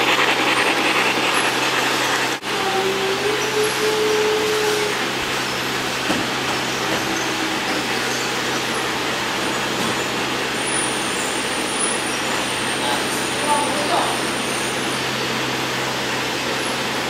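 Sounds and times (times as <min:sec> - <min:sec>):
model trains rolling on track: 0:00.0 - 0:17.0.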